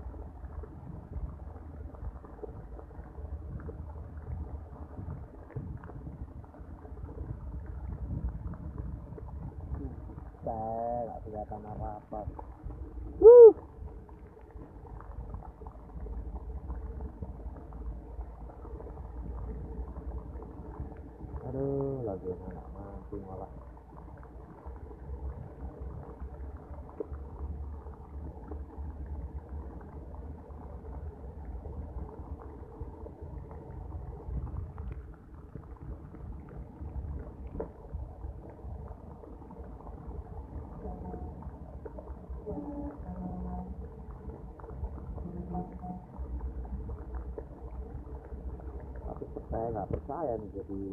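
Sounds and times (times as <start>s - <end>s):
heavy rain on water: 0.0s - 50.9s.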